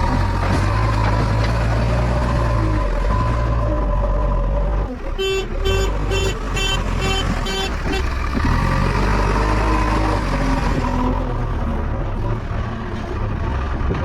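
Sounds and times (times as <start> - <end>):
heavy machine diesel engine: 0.0 - 14.0.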